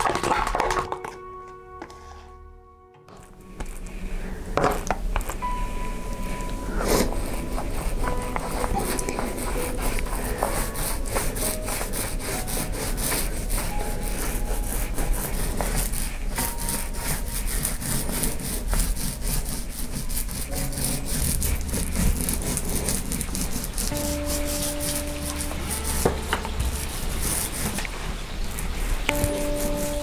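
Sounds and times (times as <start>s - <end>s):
paint roller scraping plaster: 3.1s - 5.5s, 6.1s - 30.0s.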